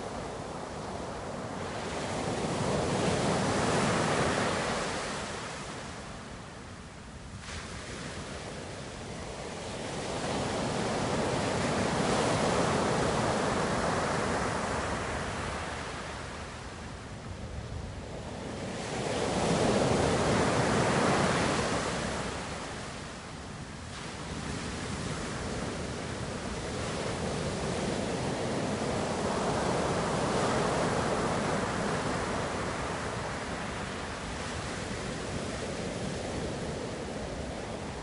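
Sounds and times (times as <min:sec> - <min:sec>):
ocean surf waves: 0:00.0 - 0:06.4, 0:07.4 - 0:17.0, 0:18.0 - 0:38.0.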